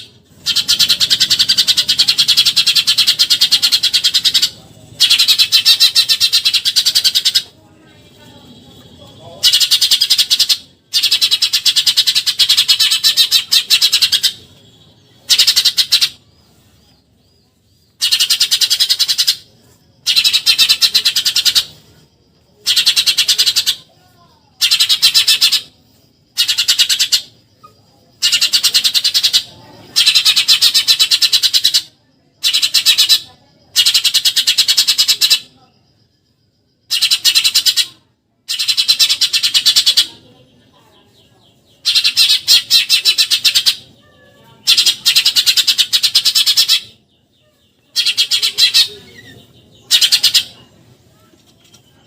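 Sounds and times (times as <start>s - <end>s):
sparrow chattering: 0.0s - 52.0s.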